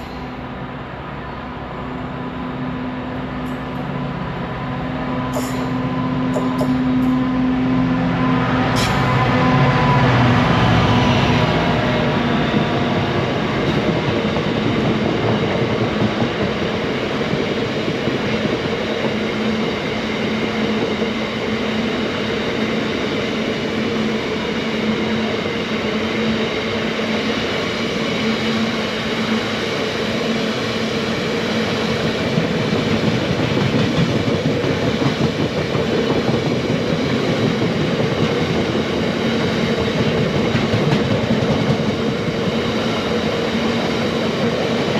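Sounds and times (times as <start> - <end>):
train passing on track: 0.0 - 44.9.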